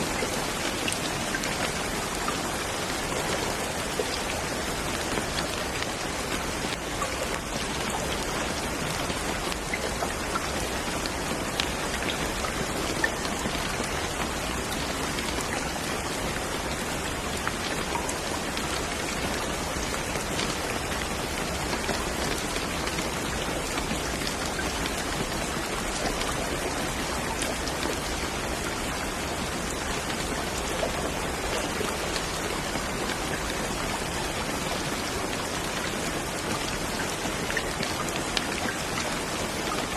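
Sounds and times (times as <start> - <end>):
raindrops ticking: 0.0 - 39.9
steady rain hiss: 0.0 - 39.9.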